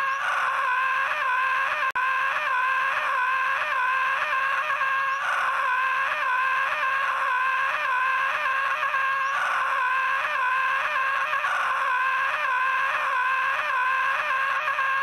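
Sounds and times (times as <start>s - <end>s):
cartoon character screaming: 0.0s - 15.0s.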